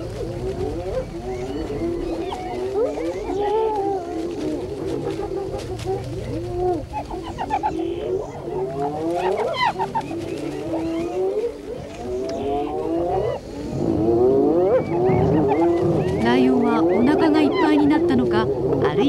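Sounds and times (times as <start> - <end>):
hyenas calling: 0.0 - 19.0.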